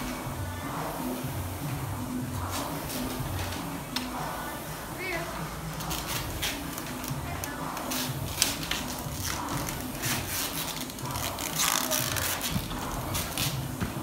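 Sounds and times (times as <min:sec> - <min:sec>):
rowing machine flywheel whooshing: 0:00.0 - 0:14.0.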